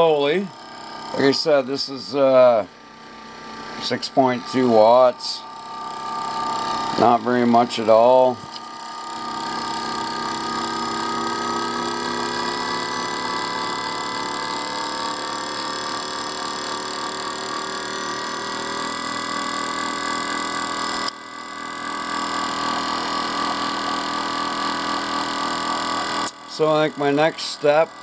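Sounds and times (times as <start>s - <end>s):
electric motor whine: 0.0s - 28.0s.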